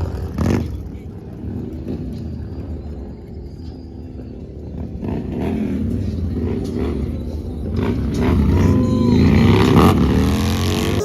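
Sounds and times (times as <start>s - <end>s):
vehicle engine droning: 0.0s - 11.0s
wavering gliding tones: 0.0s - 11.0s.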